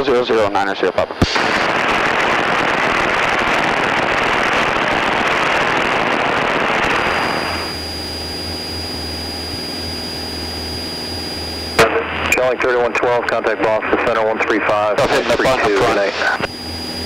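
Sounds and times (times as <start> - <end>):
radio static hiss: 0.0 - 17.0
aircraft engine drone: 1.4 - 17.0.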